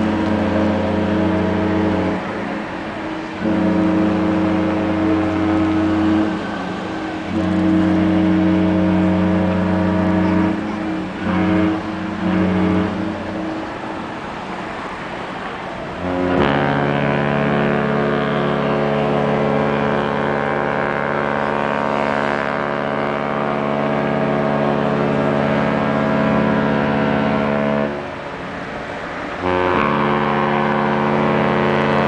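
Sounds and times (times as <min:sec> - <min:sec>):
ship horn blasts: 0:00.0 - 0:32.0.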